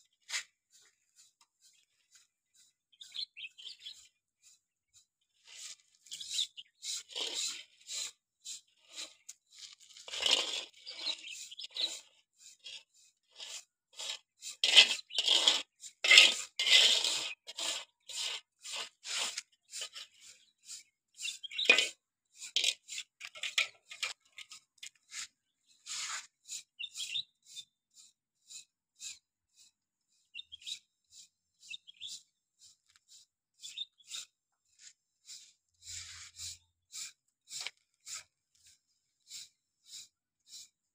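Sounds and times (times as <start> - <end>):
trowel scraping wet grout: 0.1 - 40.9.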